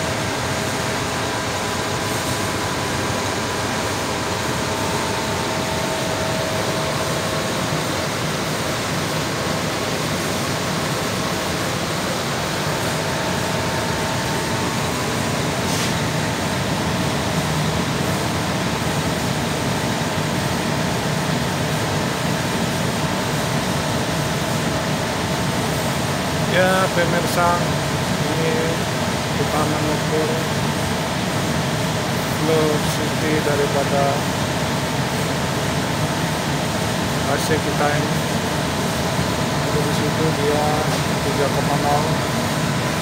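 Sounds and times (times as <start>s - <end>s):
air conditioner blower rushing: 0.0s - 43.0s.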